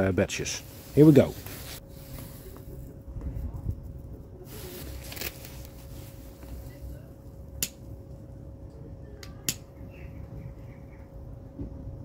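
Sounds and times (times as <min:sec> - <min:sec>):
furnace rumbling and humming: 0:00.0 - 0:12.0.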